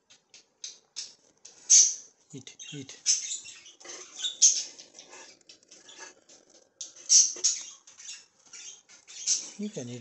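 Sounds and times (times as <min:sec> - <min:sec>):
budgerigars chirping and squeaking: 0:00.6 - 0:10.0.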